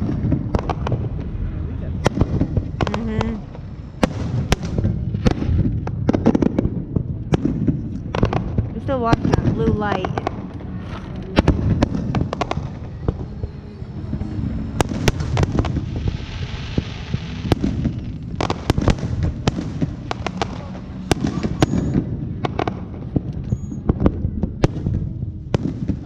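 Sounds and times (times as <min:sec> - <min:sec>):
hissing crackle: 0:00.0 - 0:23.5
fireworks bangs and cracks: 0:00.0 - 0:26.0
low rumble: 0:00.0 - 0:26.0.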